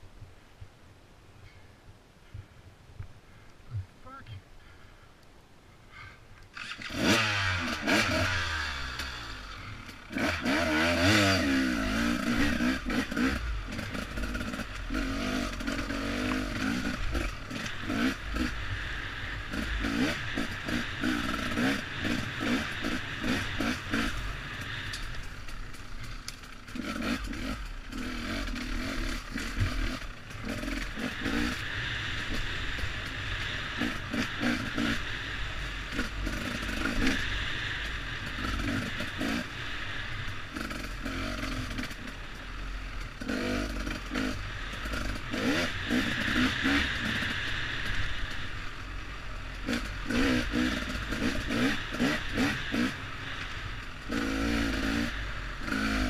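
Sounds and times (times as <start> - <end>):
motorcycle engine revving: 6.5 - 56.0.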